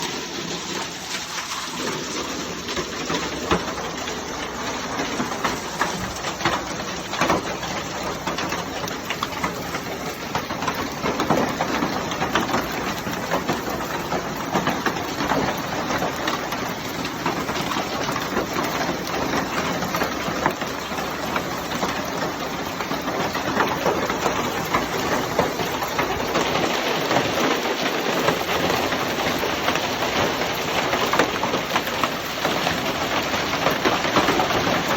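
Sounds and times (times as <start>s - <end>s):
falling ice and rain: 0.0s - 34.9s
hailstones clattering: 0.0s - 34.9s.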